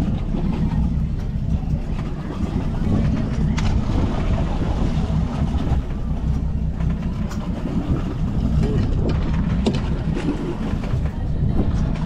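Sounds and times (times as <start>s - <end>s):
boat motor rumbling: 0.0s - 12.0s
choppy sea: 0.0s - 12.0s
wind: 0.0s - 12.0s.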